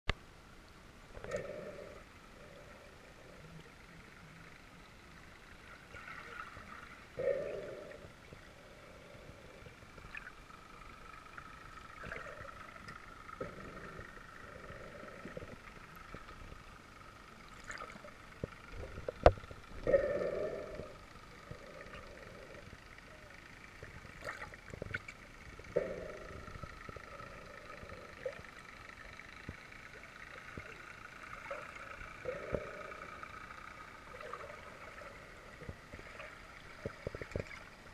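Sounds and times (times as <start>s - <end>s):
faint steady hum: 0.1s - 37.9s
muffled underwater gurgling: 1.2s - 37.9s.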